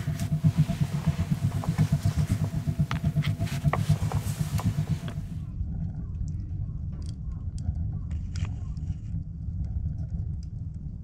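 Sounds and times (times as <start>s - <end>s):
fluttering low rumble: 0.0s - 11.0s.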